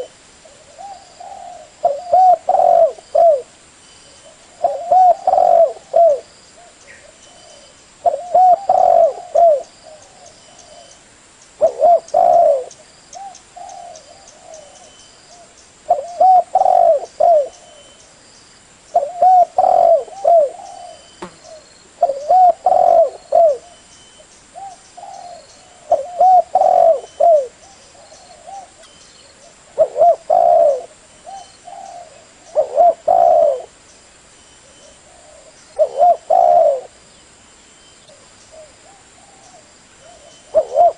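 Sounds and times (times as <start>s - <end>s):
dove cooing: 0.0s - 3.5s, 4.2s - 11.0s, 11.6s - 18.0s, 18.9s - 23.8s, 24.6s - 33.8s, 34.6s - 37.0s, 38.1s - 40.9s.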